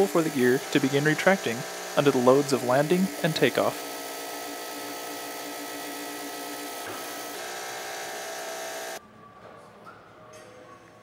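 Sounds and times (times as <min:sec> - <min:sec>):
small electric motor whining: 0:00.0 - 0:09.0.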